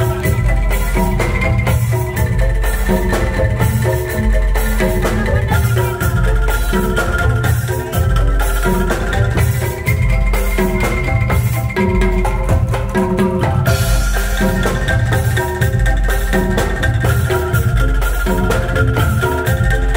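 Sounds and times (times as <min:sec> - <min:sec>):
bamboo xylophones melody: 0:00.0 - 0:19.9
drum kit with cymbal: 0:00.0 - 0:19.9
hand drums: 0:00.0 - 0:19.9.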